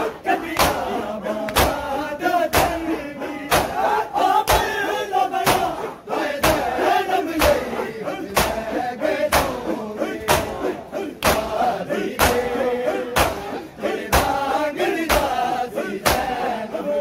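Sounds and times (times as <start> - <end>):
crowd of men chanting: 0.0 - 17.0
chest beating slaps: 0.5 - 16.5.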